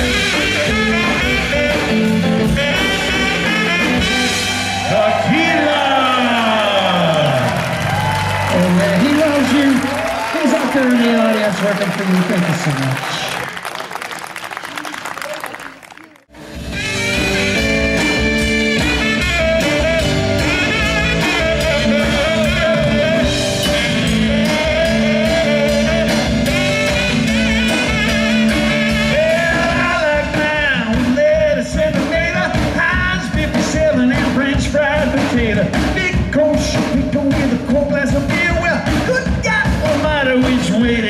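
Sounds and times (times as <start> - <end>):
live rock band playing: 0.0 - 12.8, 16.3 - 41.0
drums beating: 0.0 - 13.7, 14.3 - 41.0.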